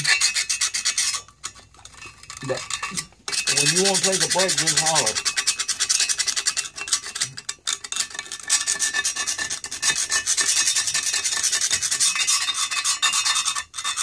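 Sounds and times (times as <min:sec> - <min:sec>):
hand scraping back and forth: 0:00.0 - 0:14.0.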